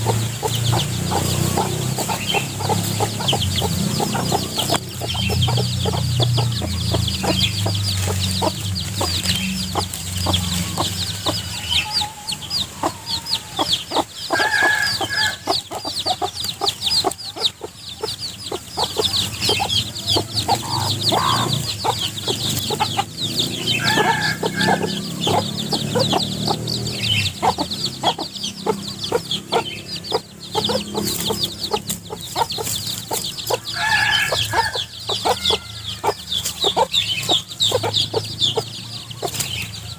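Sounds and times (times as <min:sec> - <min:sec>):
birds scratching in dry leaves: 0:00.0 - 0:39.9
chicks peeping: 0:00.0 - 0:39.9
hens clucking: 0:00.0 - 0:39.9.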